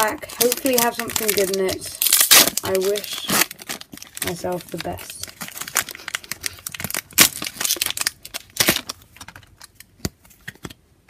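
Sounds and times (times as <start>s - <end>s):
foil wrapper crinkling and tearing: 0.0s - 10.0s
cards rustling: 0.0s - 10.8s.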